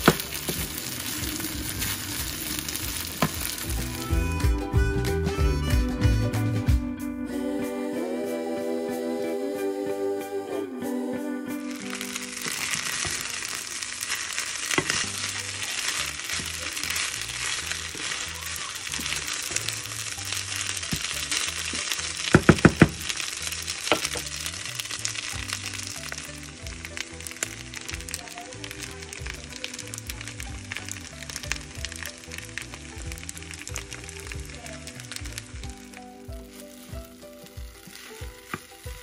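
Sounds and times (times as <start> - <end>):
wooden spatula stirring: 0.0 - 4.2, 11.7 - 39.0
rice sizzling in a pan: 0.0 - 5.8, 11.5 - 39.0
soft background music: 0.0 - 18.2, 18.8 - 39.0.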